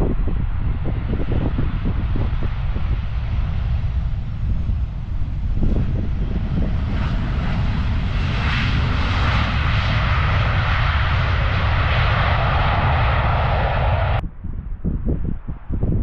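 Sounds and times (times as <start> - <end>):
jet engine rushing: 0.0 - 14.3
wind on microphone: 0.0 - 16.0.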